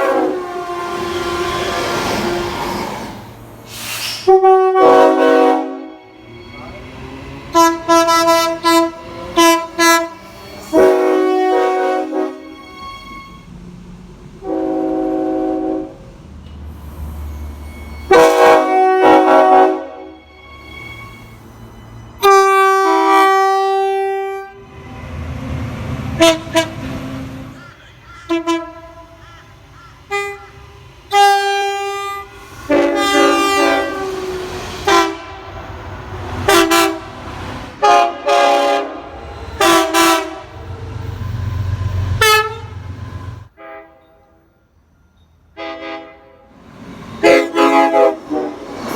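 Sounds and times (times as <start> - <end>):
train horn blasts: 0.0 - 3.2, 4.2 - 13.6, 14.4 - 16.1, 17.6 - 21.5, 22.2 - 25.4, 26.0 - 27.6, 28.3 - 29.5, 30.1 - 40.7, 42.1 - 42.9, 43.5 - 44.7, 45.5 - 46.6, 47.2 - 48.9
low rumble of trains: 0.0 - 48.9.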